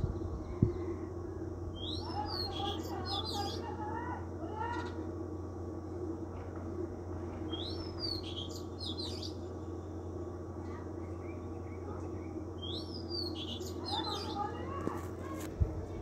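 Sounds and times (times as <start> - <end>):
birds chirping: 0.0 - 14.8
steady low hum: 0.0 - 16.0.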